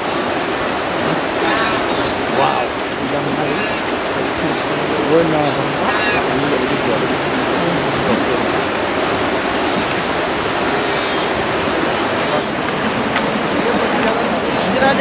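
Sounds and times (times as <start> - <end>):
river water rushing and splashing: 0.0 - 15.0.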